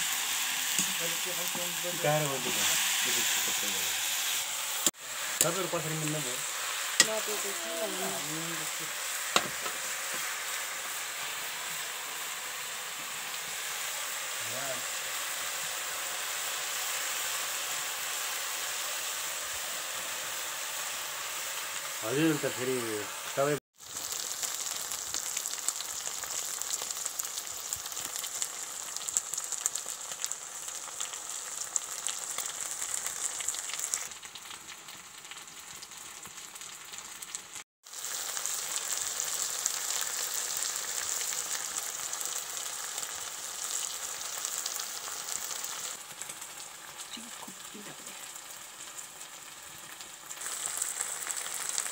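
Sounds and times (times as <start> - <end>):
mushrooms sizzling in oil: 0.0 - 51.9.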